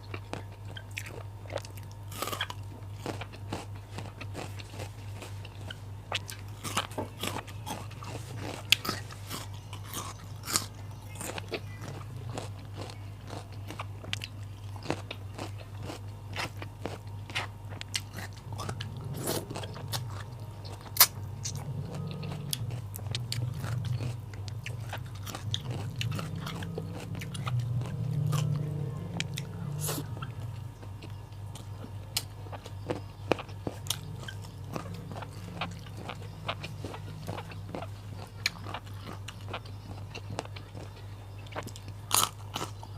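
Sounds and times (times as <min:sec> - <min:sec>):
crunchy chewing of vegetables: 0:00.0 - 0:42.9
steady low hum: 0:00.0 - 0:42.9.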